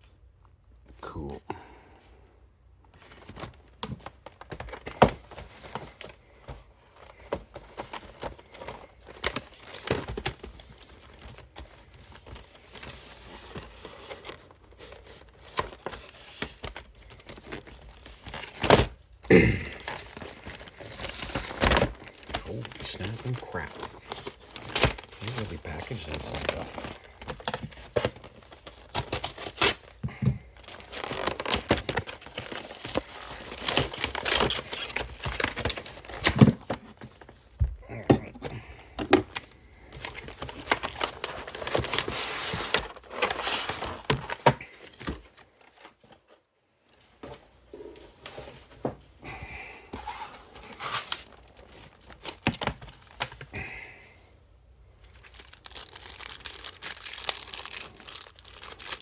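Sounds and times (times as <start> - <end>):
packaging crinkling and tearing: 3.0 - 37.6, 39.2 - 46.3, 50.0 - 53.7, 54.9 - 59.0.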